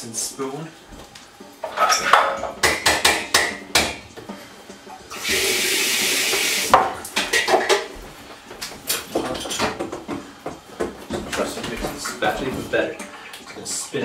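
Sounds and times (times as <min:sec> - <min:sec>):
utensils and dishes clattering: 0:01.6 - 0:08.0, 0:08.6 - 0:14.0.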